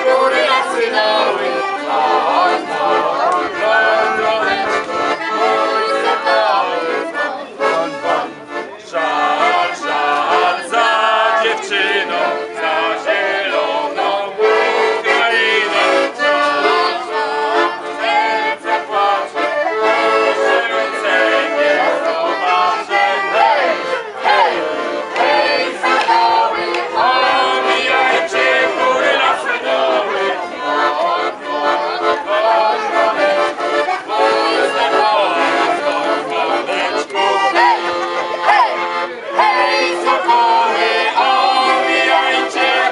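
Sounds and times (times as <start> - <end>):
accordion playing folk song: 0.0 - 42.9
group of people singing: 0.0 - 42.9.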